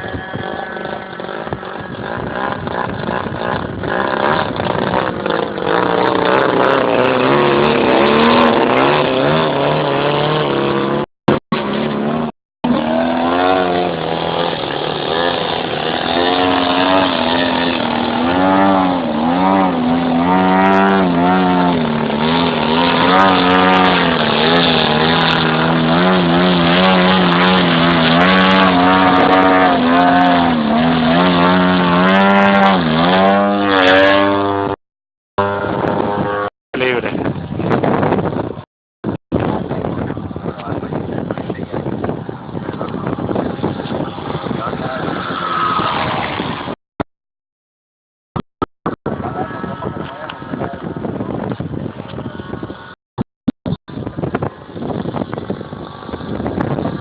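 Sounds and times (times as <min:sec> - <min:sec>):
model aeroplane engine in flight: 0:00.0 - 0:34.8, 0:35.4 - 0:38.6, 0:39.4 - 0:46.8, 0:49.1 - 0:53.0, 0:53.9 - 0:57.0.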